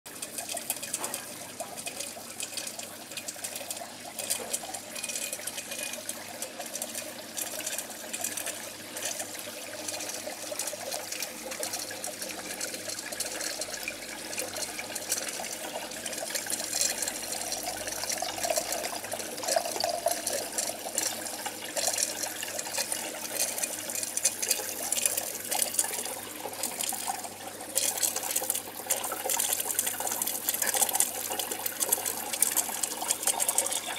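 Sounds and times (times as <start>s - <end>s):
water trickling into pipes: 0.1s - 33.9s.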